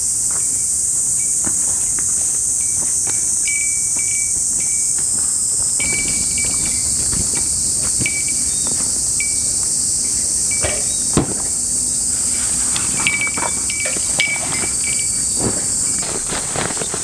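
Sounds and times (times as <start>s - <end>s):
cicadas singing: 0.0s - 17.0s
footsteps through leaf litter: 0.0s - 17.0s.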